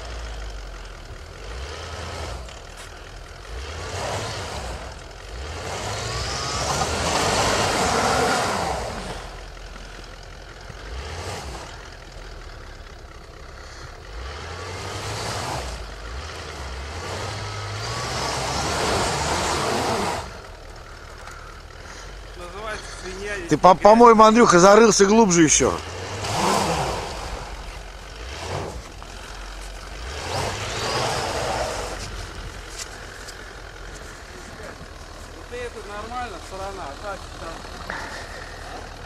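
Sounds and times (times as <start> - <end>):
wheels spinning in snow: 0.0 - 23.4, 24.5 - 39.0
car engine revving hard: 1.2 - 2.8, 3.4 - 9.6, 10.7 - 12.1, 13.6 - 39.0.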